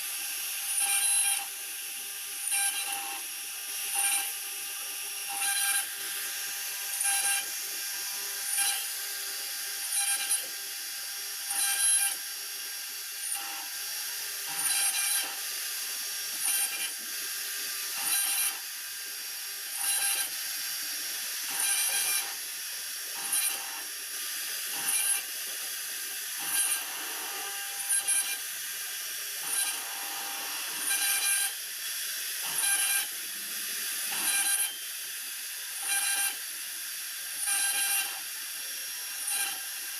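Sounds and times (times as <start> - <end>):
router bits cutting wood: 0.0 - 39.9
router spindles whining: 0.0 - 39.9.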